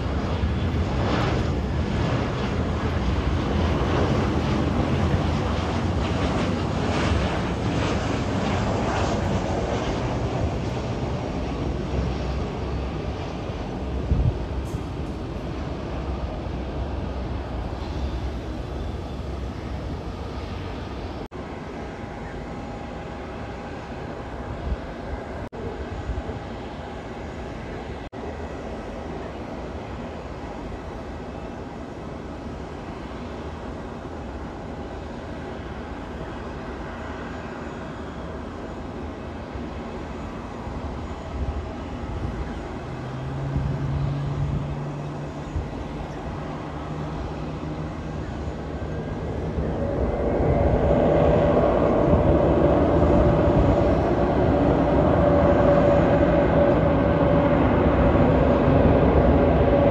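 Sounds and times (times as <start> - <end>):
jet engine whine: 0.0 - 59.9
jet engines rumbling: 0.0 - 59.9.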